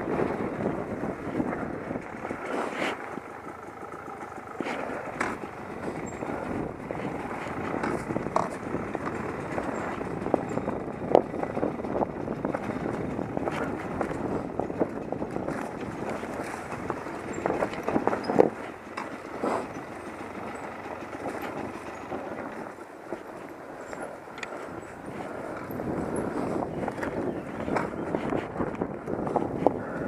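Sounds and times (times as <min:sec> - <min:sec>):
bike knocking and rattling on bumps: 0:00.0 - 0:30.0
muffled dirt bike engine: 0:00.0 - 0:30.0.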